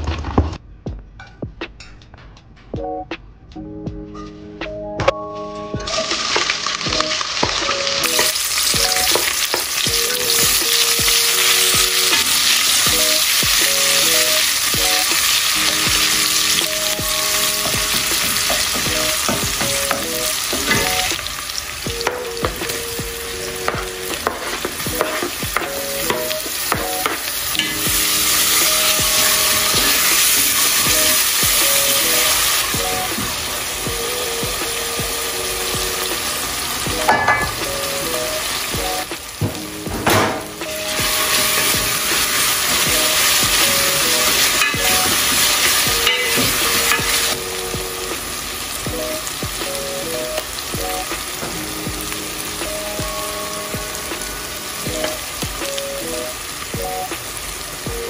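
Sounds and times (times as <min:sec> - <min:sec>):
onions sizzling in a pot: 0:05.8 - 0:58.0.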